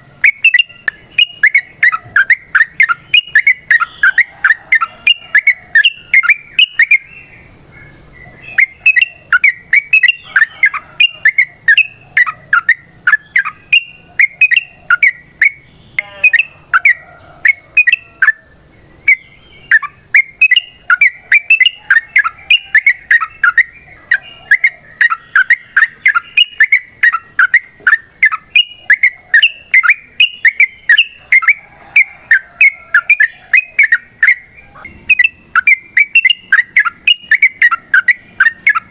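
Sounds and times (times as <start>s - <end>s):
bird chirping song: 0.0s - 38.9s.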